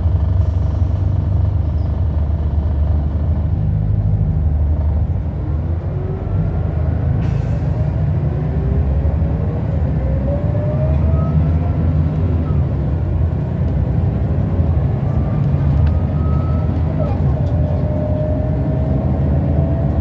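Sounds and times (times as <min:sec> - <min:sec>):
bus engine low rumble: 0:00.0 - 0:20.0.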